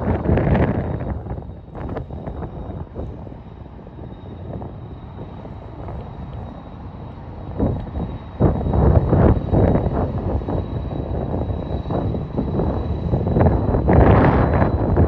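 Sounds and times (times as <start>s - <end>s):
low outdoor rumble: 0.0s - 15.0s
wind buffeting microphone: 0.0s - 15.0s.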